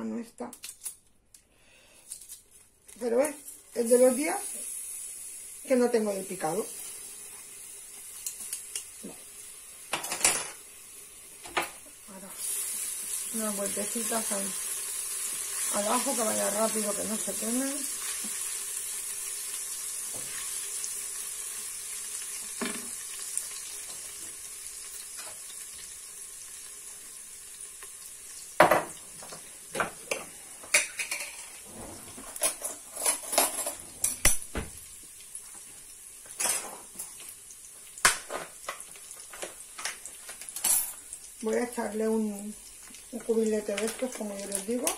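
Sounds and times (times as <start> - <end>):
garlic sizzling in oil: 2.9 - 33.4, 34.1 - 44.9.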